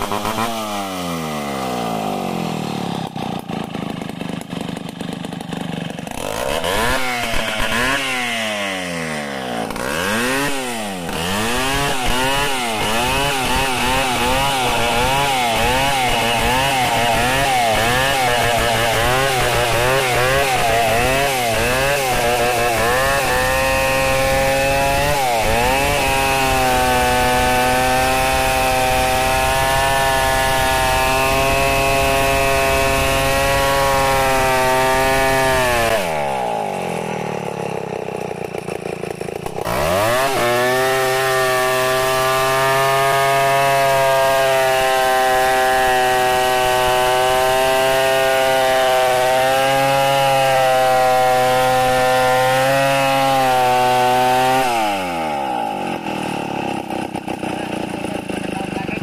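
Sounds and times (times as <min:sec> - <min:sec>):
chainsaw revving and cutting log: 0:00.0 - 0:59.0.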